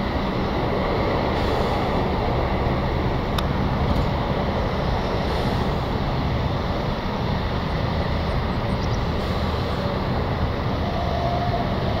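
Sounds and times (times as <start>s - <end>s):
jet engines low rumble: 0.0s - 12.0s.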